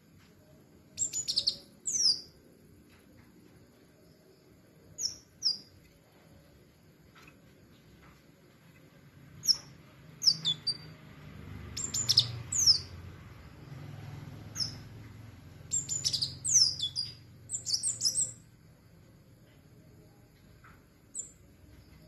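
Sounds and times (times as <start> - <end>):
sunbird chirping: 0.0 - 22.0.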